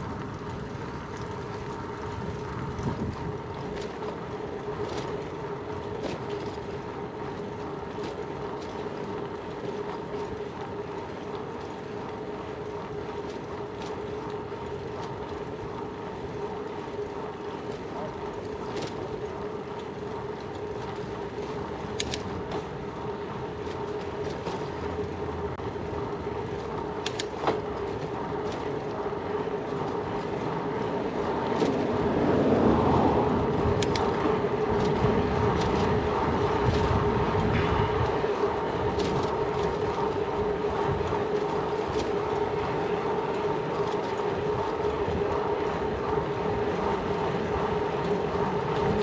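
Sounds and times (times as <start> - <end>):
bicycle clicks and knocks: 0.0 - 49.0
bicycle riding on road: 0.0 - 49.0.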